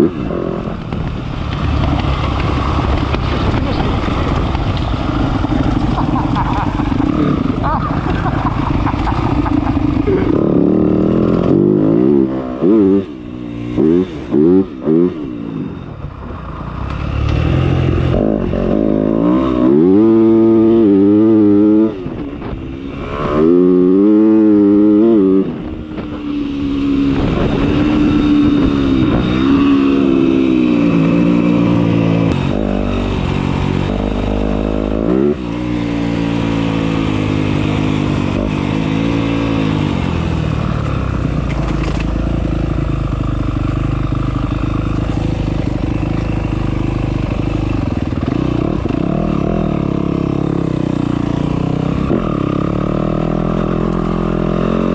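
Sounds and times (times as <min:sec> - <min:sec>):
dirt bike engine revving: 0:00.0 - 0:15.8, 0:16.8 - 0:54.9.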